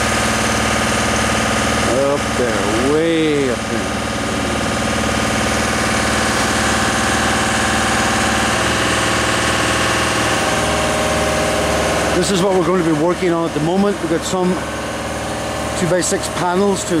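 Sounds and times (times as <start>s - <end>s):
lift engine running: 0.0s - 17.0s.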